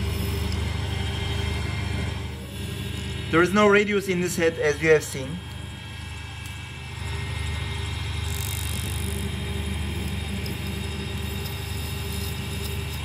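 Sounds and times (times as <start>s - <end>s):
lathe motor hum: 0.0s - 13.0s.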